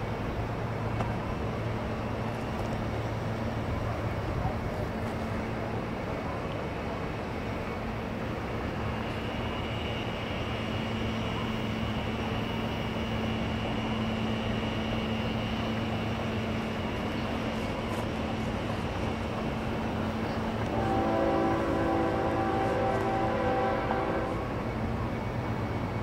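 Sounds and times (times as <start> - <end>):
freight train rumbling by: 0.0 - 26.0
faint high whine: 0.1 - 26.0.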